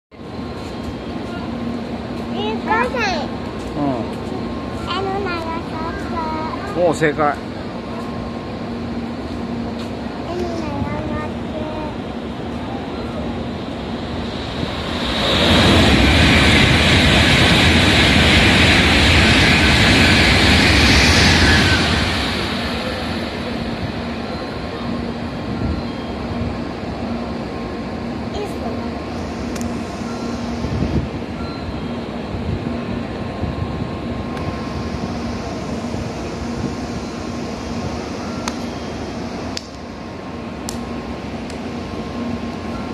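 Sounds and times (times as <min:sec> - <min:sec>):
train passing with loud rushing: 0:00.1 - 0:42.9.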